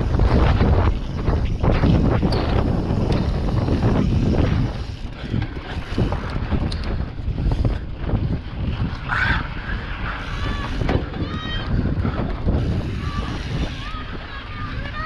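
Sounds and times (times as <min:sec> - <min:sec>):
bike rattling and knocking: 0:00.0 - 0:15.0
wind buffeting microphone: 0:00.0 - 0:15.0.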